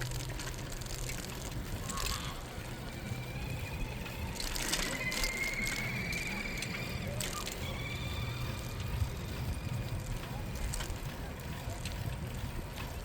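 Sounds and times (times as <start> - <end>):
bicycle tyres rumbling: 0.0 - 13.0
bike clicks and rattles: 0.0 - 13.0
wind: 0.0 - 13.0.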